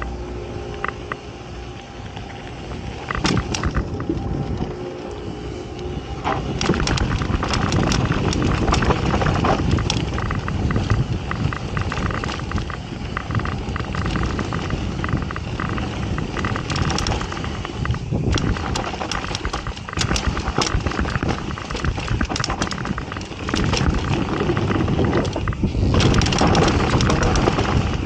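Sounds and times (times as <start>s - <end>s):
tyres rolling on loose dirt: 1.8s - 5.2s, 6.0s - 28.0s
bike rattling over bumps: 2.3s - 4.8s, 6.2s - 28.0s.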